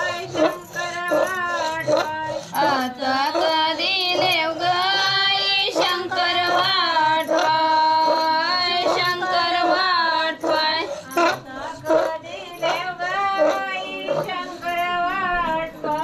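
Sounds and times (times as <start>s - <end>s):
woman singing with held notes: 0.0s - 16.0s.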